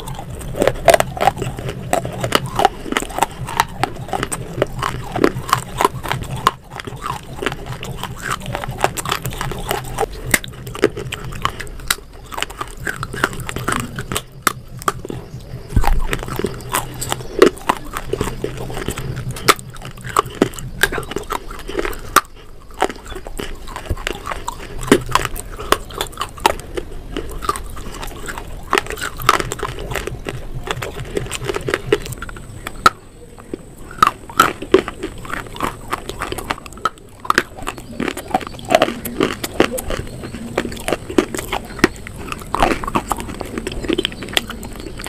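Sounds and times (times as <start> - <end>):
clay pot being chewed: 0.0 - 45.0
steady low hum: 0.0 - 45.0.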